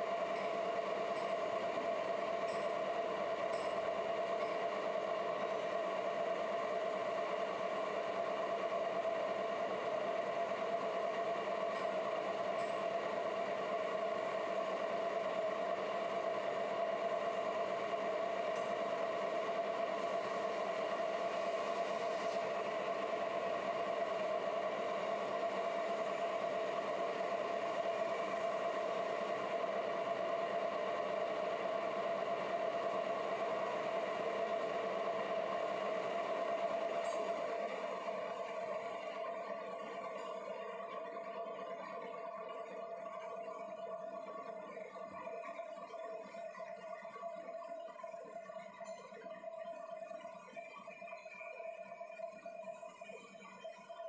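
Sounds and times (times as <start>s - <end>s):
lathe droning with whine: 0.0s - 54.0s.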